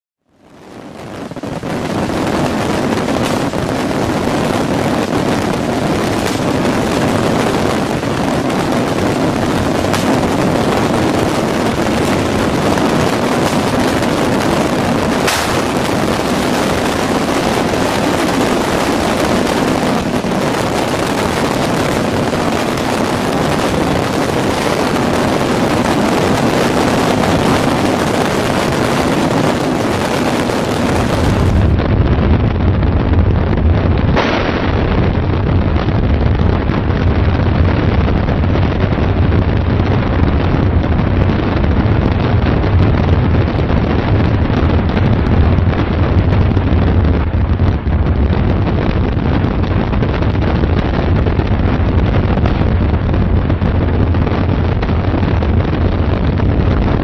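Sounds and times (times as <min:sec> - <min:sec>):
fireworks crackling and banging: 0:00.4 - 0:57.0.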